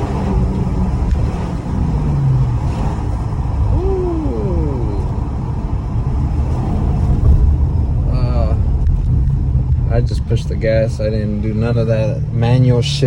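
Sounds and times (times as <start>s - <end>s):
car engine accelerating: 0.0s - 13.0s
road rumble: 0.0s - 13.0s.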